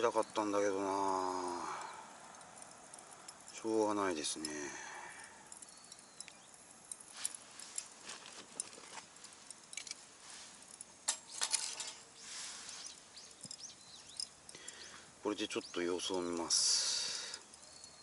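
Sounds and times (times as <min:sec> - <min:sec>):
charcoal and grill clinking: 0:00.0 - 0:18.0.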